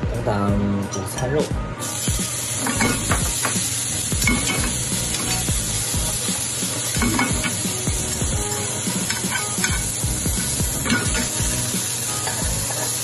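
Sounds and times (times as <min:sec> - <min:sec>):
meat sizzling in a frying pan: 0:01.8 - 0:13.0.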